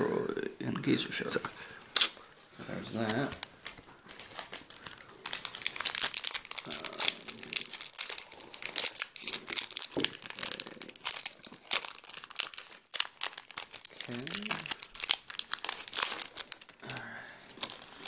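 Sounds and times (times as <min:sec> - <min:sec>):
trading cards rustling: 0:02.7 - 0:18.0
foil wrapper crinkling: 0:02.9 - 0:18.0.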